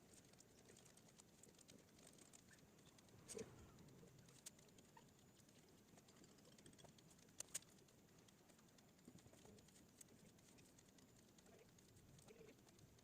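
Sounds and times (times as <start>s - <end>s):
computer mouse clicks: 0.0s - 13.0s.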